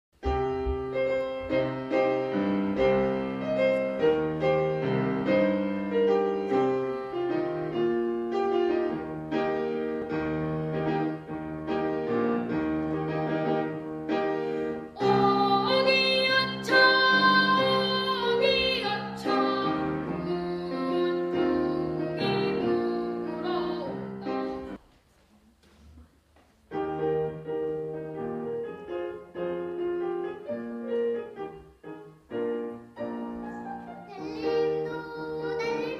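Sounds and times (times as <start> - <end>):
piano-led instrumental music: 0.1 - 24.8, 26.2 - 35.9.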